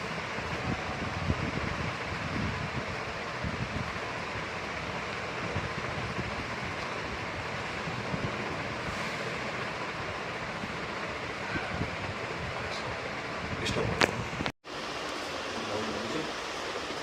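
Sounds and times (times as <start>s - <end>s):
steady rushing fan noise: 0.0s - 17.0s.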